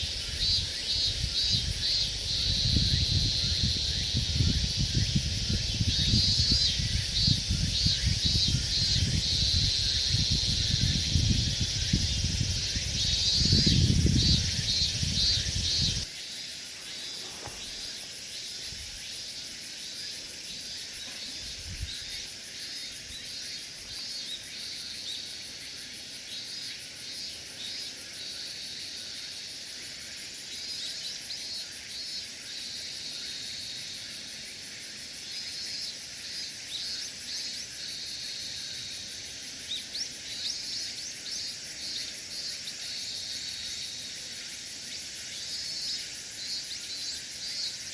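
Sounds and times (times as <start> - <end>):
high hiss of insect song: 0.0 - 47.9
insects chirping: 0.0 - 47.9.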